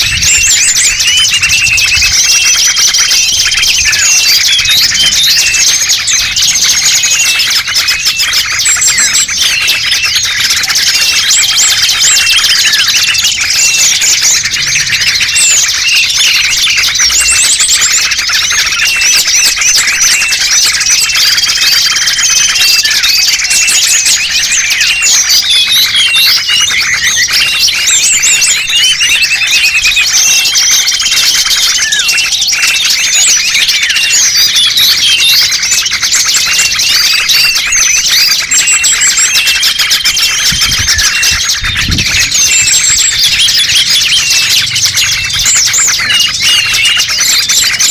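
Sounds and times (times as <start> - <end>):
songbirds chirping and twittering: 0.0 - 47.9.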